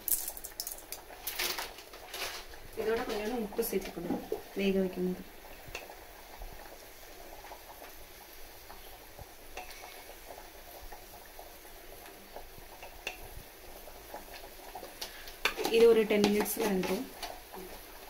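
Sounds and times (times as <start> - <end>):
pan hissing on stove: 0.0 - 18.0.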